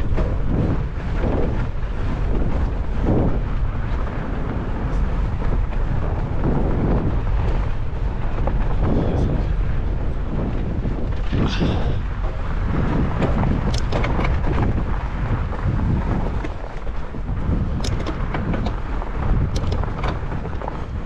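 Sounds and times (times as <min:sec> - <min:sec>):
sharp clicks and rattles: 0:00.0 - 0:21.0
tyres rolling over snow: 0:00.0 - 0:21.0
wind on microphone: 0:00.0 - 0:21.0.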